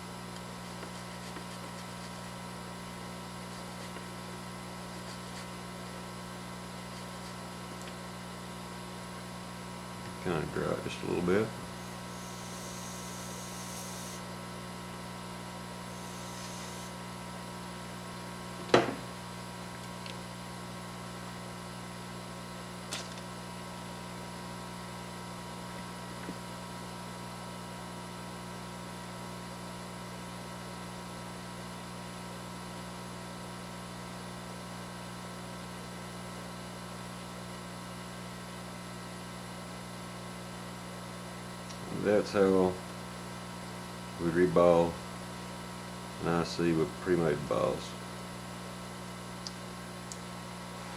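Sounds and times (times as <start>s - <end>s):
electrical mains hum: 0.0s - 50.9s.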